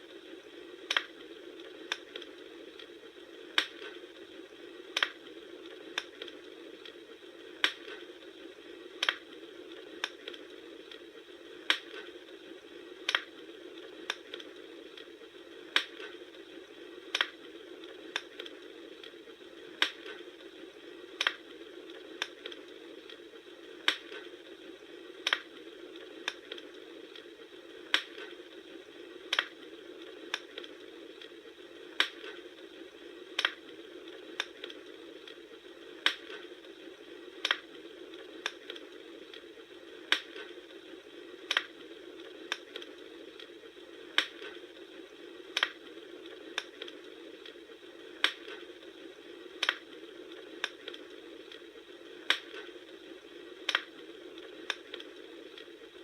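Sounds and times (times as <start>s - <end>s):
flames hissing: 0.0s - 56.0s
wood popping in bonfire: 0.6s - 55.8s.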